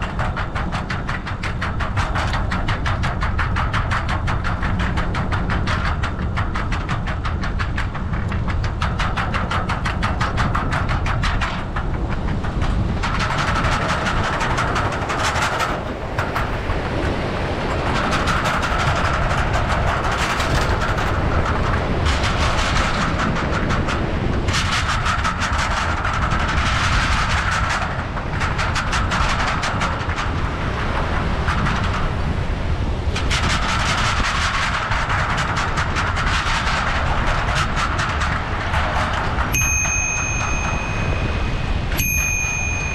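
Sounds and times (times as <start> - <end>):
wind rumble on microphone: 0.0 - 42.9.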